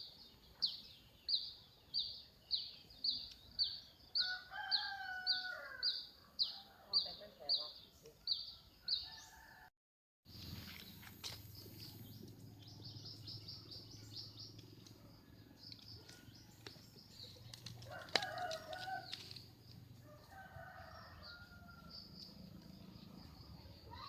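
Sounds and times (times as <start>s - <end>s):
birds chirping: 0.0s - 9.6s, 10.3s - 24.0s.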